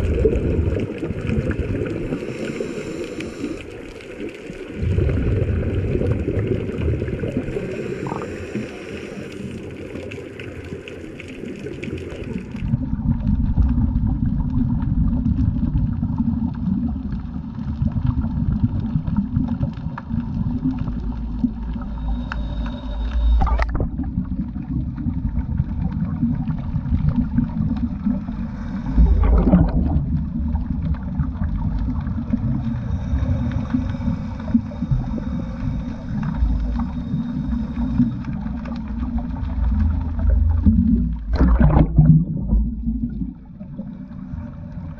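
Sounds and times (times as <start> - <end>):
divers' bubbles gurgling: 0.0 - 44.9
muffled underwater rumble: 0.0 - 44.9.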